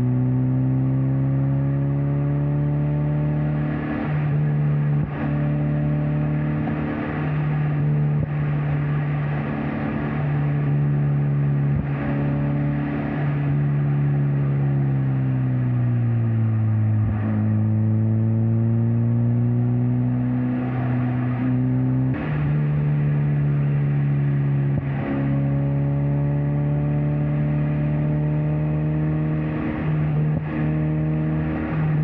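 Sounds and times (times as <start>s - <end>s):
car engine and exhaust: 0.0s - 32.0s
road and wind noise: 0.0s - 32.0s.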